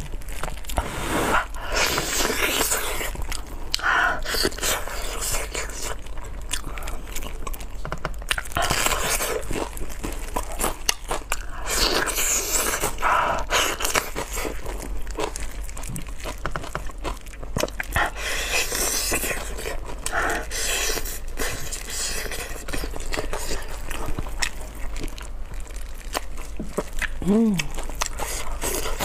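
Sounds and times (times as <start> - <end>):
person biting and chewing: 0.0 - 29.0.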